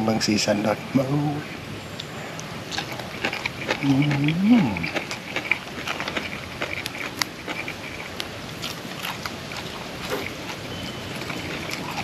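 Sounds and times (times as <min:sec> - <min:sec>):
wet chewing clicks and smacks: 0:02.0 - 0:12.0.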